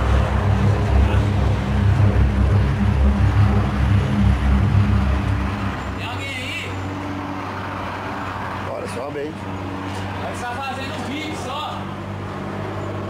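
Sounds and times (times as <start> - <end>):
road traffic: 0.0 - 13.0
truck engine droning: 0.0 - 13.0.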